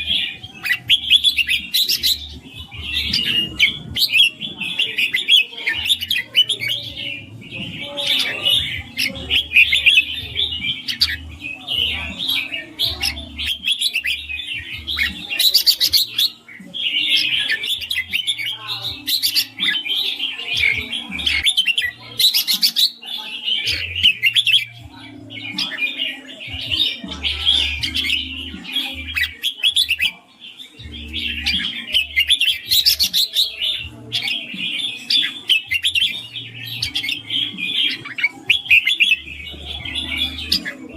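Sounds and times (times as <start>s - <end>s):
bulbuls chirping: 0.0s - 40.9s.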